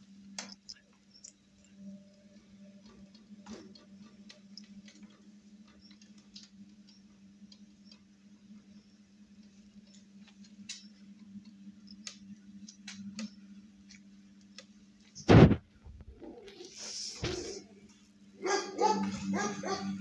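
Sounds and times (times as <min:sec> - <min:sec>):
faint electric hum: 0:00.0 - 0:20.0.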